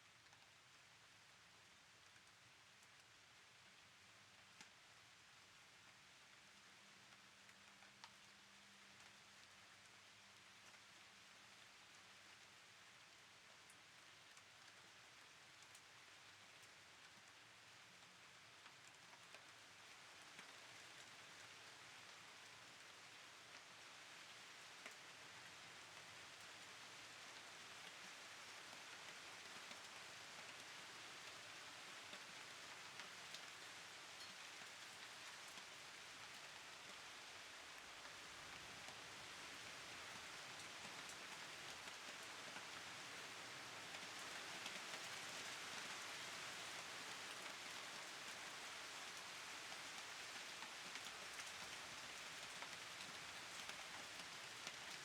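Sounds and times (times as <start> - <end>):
faint steady rain: 0.0 - 55.0.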